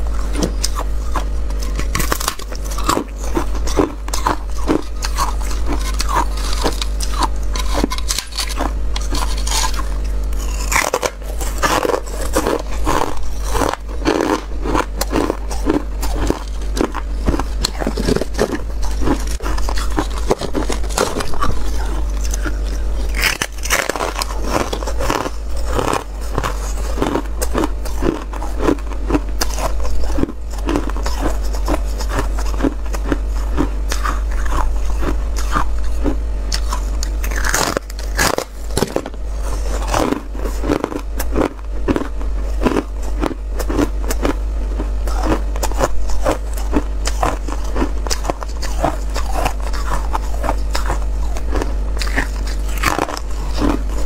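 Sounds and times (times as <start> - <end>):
ice being chewed: 0.0 - 54.0
steady low hum: 0.0 - 54.0.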